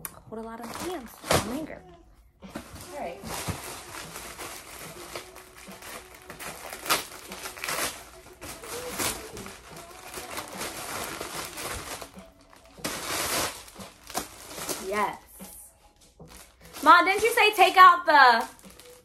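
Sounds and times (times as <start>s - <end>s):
plastic mailer bag crinkling: 2.7s - 15.2s, 16.2s - 19.0s.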